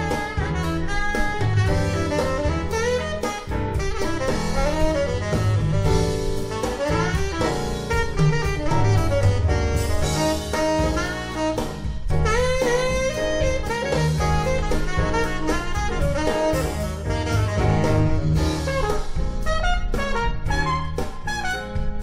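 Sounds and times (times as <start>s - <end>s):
jazz with saxophone lead: 0.0s - 22.0s.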